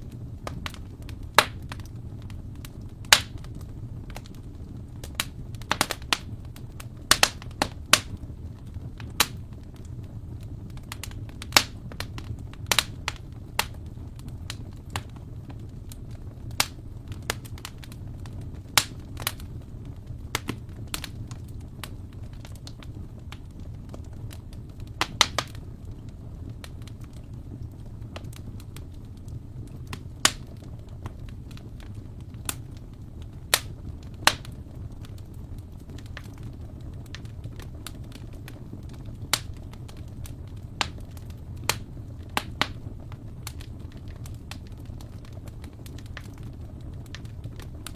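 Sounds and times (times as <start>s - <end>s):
low rumble of flames: 0.0s - 47.9s
wood fire crackling: 0.0s - 47.9s.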